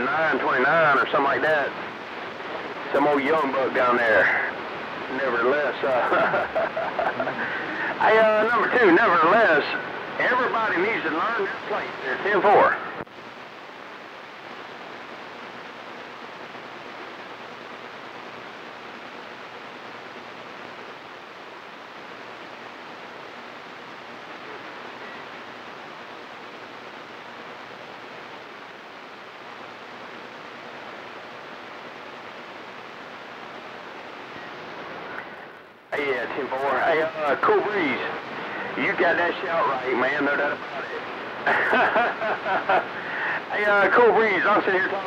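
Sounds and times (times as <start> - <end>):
radio static hiss: 0.0 - 45.0.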